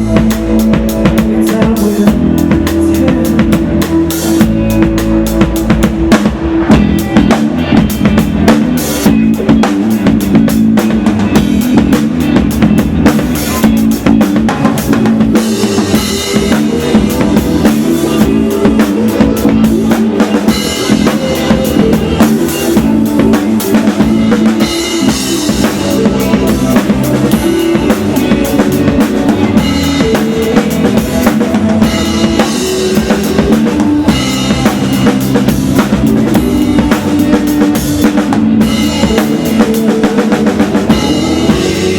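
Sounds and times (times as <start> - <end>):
drum kit beat: 0.0 - 41.9
live band playing instrumental: 0.0 - 41.9
low guitar and bass notes: 0.0 - 41.9.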